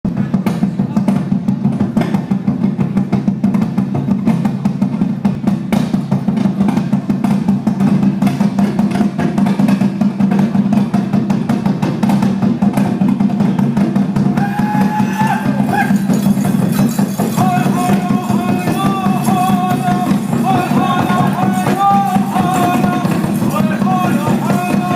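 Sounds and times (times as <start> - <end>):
drum beating steadily: 0.1 - 24.9.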